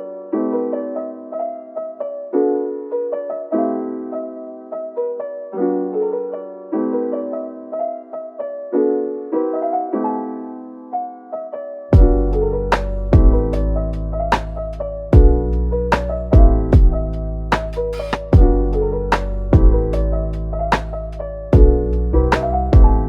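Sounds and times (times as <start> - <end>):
gentle piano piece: 0.0 - 23.0.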